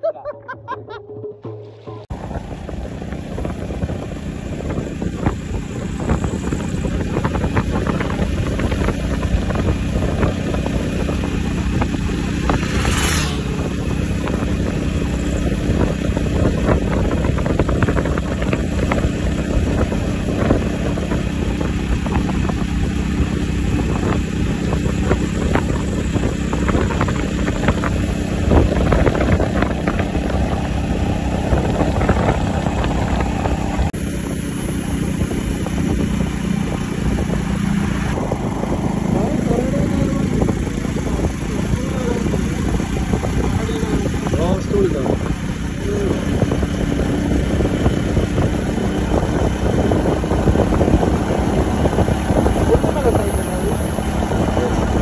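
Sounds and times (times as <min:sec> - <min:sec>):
motorcycle engine running: 0:00.9 - 0:55.0
wind noise on microphone: 0:02.1 - 0:55.0.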